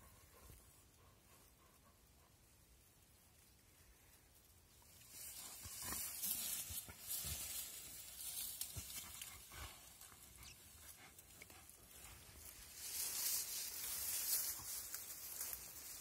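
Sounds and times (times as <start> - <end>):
rustling and scuffling in grass: 2.8 - 16.0.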